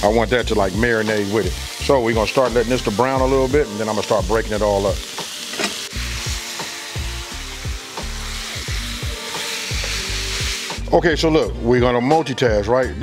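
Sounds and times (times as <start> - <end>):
meat sizzling in a skillet: 0.0 - 10.8.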